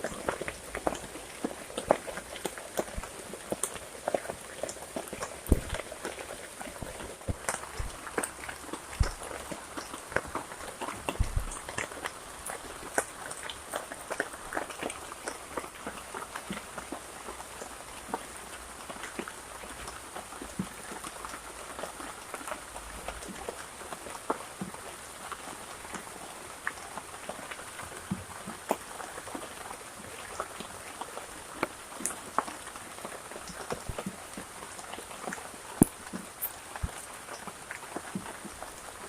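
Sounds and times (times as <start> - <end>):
raindrops ticking on a surface: 0.0 - 39.0
steady rain: 0.0 - 39.0.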